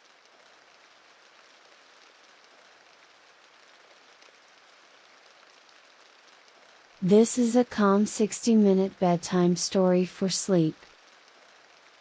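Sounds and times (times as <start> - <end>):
rain on window glass: 0.0 - 12.0.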